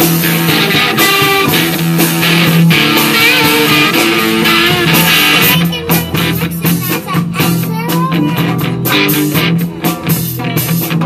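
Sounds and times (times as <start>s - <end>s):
electric guitar: 0.0s - 11.0s
rock band playing live: 0.0s - 11.0s.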